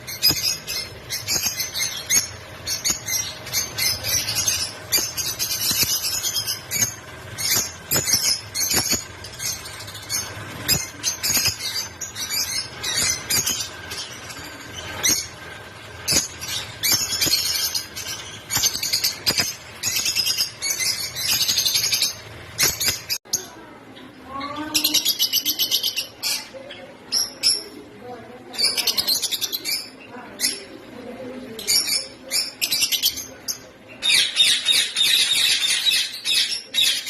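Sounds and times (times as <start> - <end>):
lovebirds chirping and squeaking: 0.0 - 37.0.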